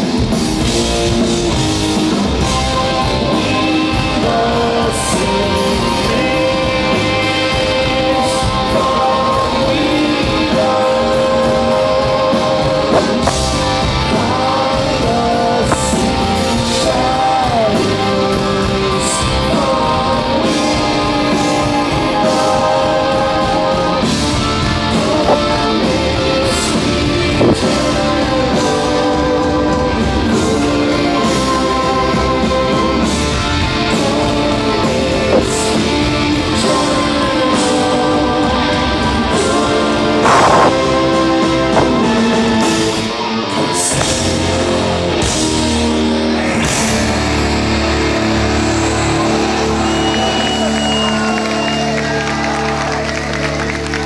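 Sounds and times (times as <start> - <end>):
electric guitars: 0.0 - 54.0
live heavy rock band: 0.0 - 54.0
man singing: 0.6 - 47.2.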